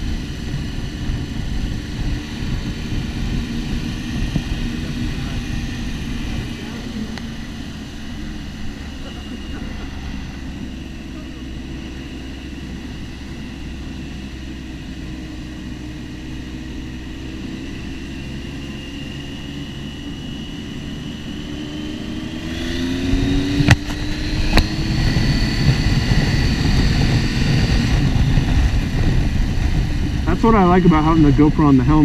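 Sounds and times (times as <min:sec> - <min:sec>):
motorcycle engine accelerating: 0:00.0 - 0:32.0
wind rumble: 0:00.0 - 0:32.0.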